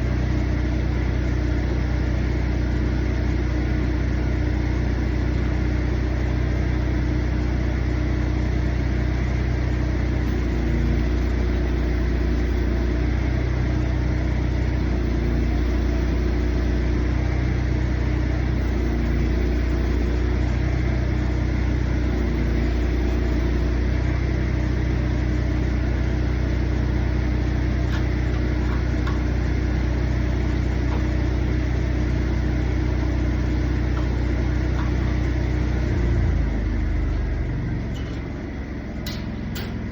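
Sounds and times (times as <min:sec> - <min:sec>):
engine idling steadily: 0:00.0 - 0:39.9.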